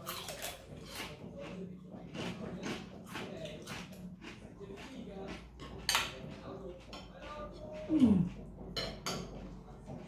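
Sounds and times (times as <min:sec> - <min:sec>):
cutlery clinking on plates: 0:00.0 - 0:07.4, 0:08.2 - 0:10.0.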